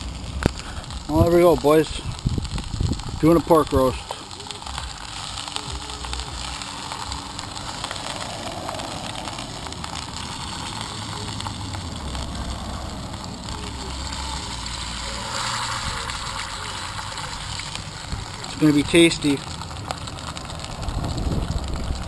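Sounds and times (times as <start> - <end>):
low rumble: 0.0 - 22.0
meat sizzling in hot oil: 0.0 - 22.0.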